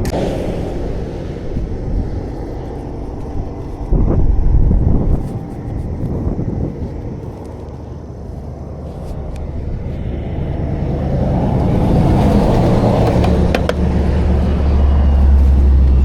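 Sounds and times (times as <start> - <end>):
highway traffic rumble: 0.0 - 16.0
vehicle passing loudly: 0.0 - 16.0.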